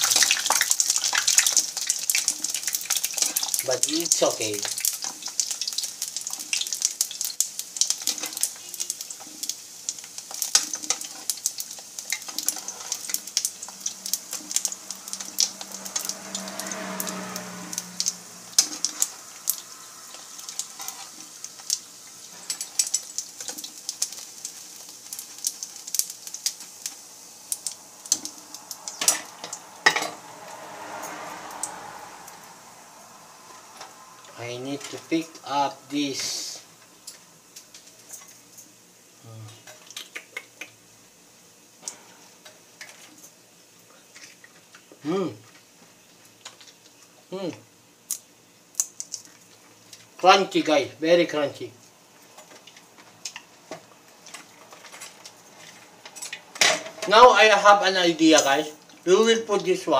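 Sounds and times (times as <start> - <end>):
deep-frying sizzle: 0.0 - 59.9.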